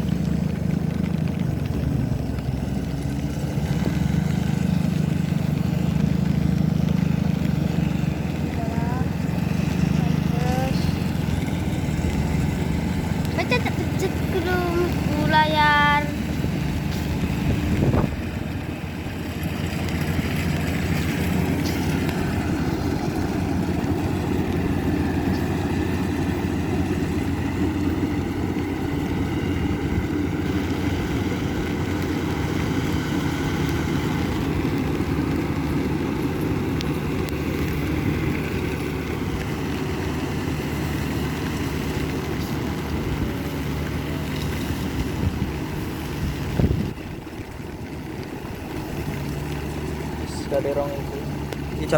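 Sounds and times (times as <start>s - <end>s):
combine harvester engine running: 0.0s - 51.9s.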